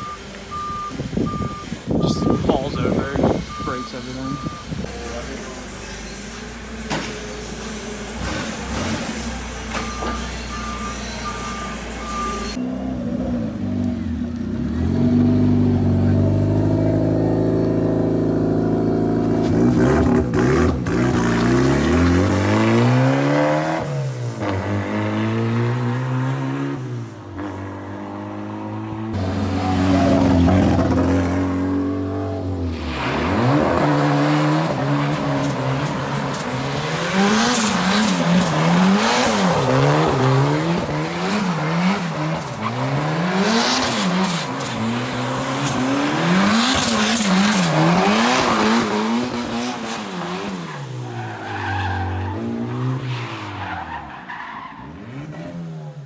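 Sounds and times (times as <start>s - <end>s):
car engine revving: 2.0s - 53.0s.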